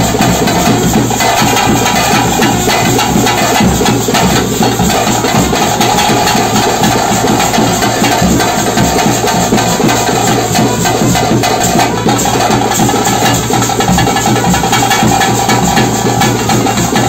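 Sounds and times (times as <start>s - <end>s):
loud dense drumming: 0.0s - 17.0s.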